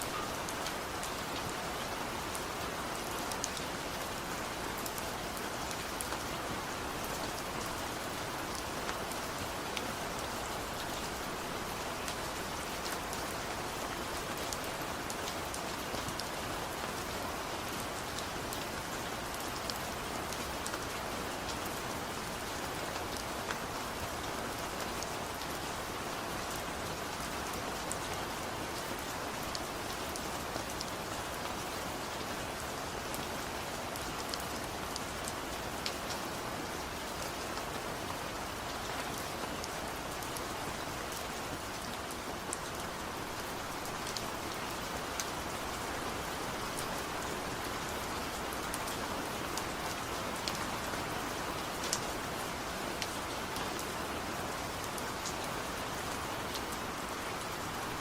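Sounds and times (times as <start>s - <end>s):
gentle rain with drop ticks: 0.0s - 58.0s.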